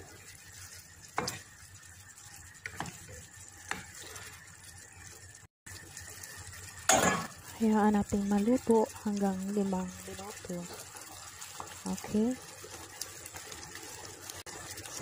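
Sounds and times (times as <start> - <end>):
low sizzling: 0.0 - 15.0
spatula stirring in frying pan: 0.0 - 15.0.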